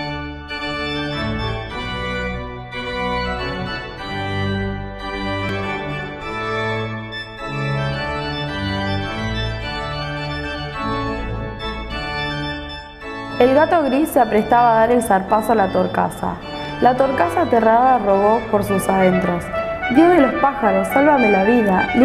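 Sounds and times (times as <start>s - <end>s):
organ chords with bass line: 0.0s - 22.0s.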